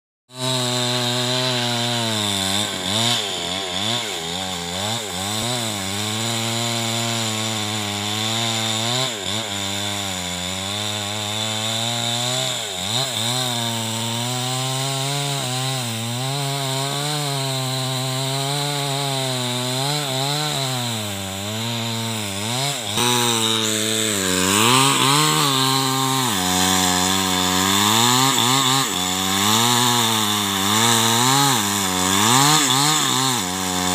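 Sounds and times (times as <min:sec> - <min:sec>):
chainsaw cutting wood: 0:00.3 - 0:33.9
wood chip noise: 0:00.5 - 0:33.9.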